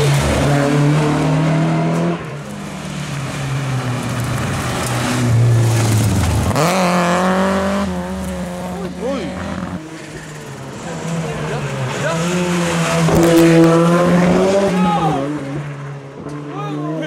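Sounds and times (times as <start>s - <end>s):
rally car engines revving: 0.0s - 17.0s.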